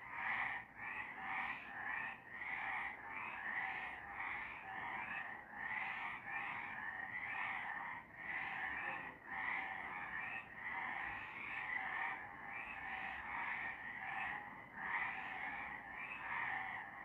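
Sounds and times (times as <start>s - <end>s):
chorus of frogs calling: 0.0s - 17.0s.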